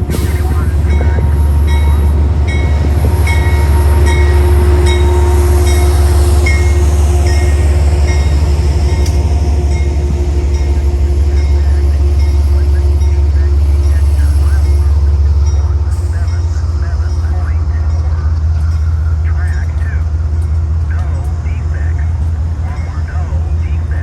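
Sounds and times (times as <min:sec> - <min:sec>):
train running by: 0:00.0 - 0:24.0.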